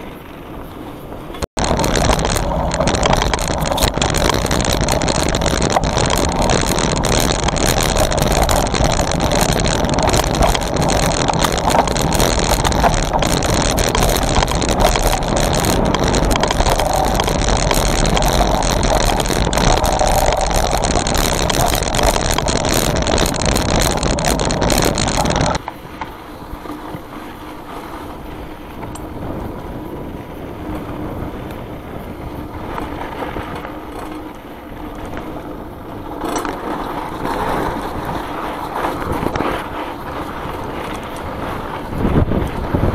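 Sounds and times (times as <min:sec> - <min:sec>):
bike mechanical rattle: 0:00.0 - 0:42.9
knobby tyres rolling over dirt: 0:00.0 - 0:42.9
tyres rolling on gravel: 0:00.0 - 0:42.9.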